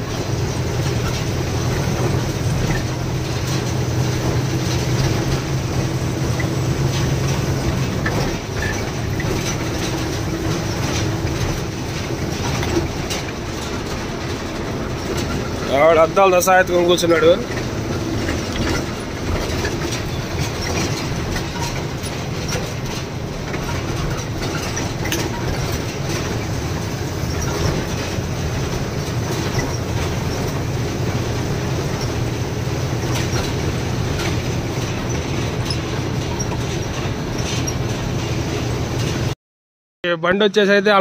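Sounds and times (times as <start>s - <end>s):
small rattles: 0.0s - 39.4s
truck engine and road rumble: 0.0s - 39.4s, 40.1s - 41.0s.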